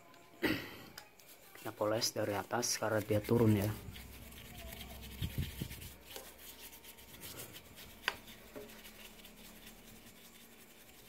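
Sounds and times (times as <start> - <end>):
brush scrubbing on metal: 1.4 - 11.0.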